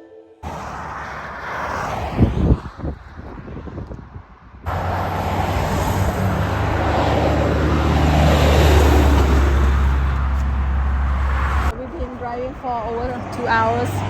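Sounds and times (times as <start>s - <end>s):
car road noise and engine hum: 0.4s - 14.0s.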